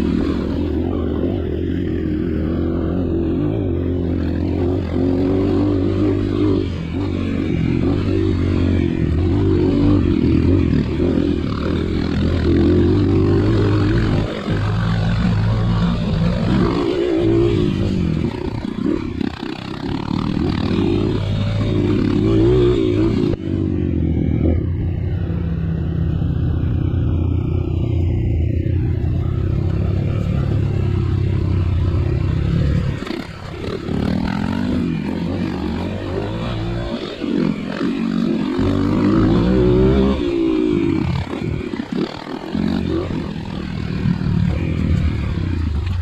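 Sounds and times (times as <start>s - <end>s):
dirt bike engine: 0.0s - 46.0s.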